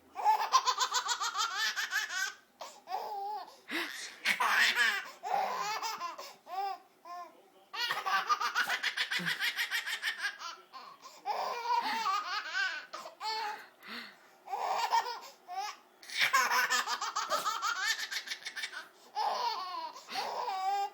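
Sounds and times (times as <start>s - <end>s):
baby laughing: 0.2s - 6.7s, 7.8s - 13.6s, 14.5s - 20.9s.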